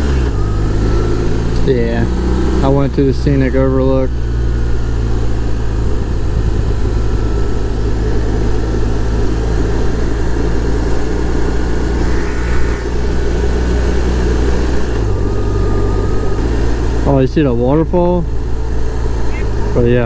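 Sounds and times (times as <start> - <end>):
motorcycle engine running: 0.0 - 20.0
wind and road noise rumble: 0.0 - 20.0.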